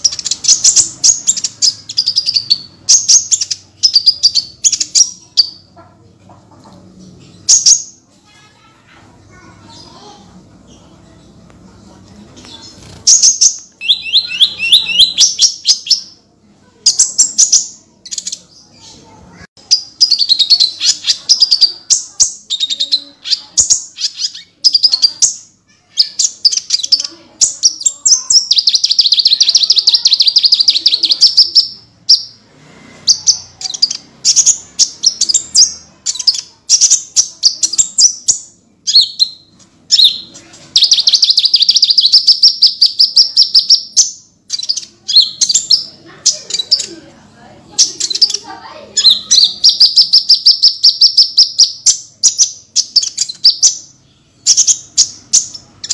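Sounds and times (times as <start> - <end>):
songbird chirps and trills: 0.0 - 55.9.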